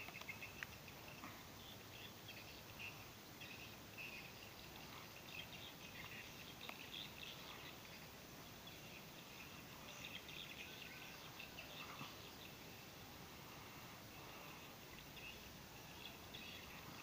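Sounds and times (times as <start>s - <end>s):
faint bird chirps: 0.0s - 17.0s
low steady hiss: 0.0s - 17.0s.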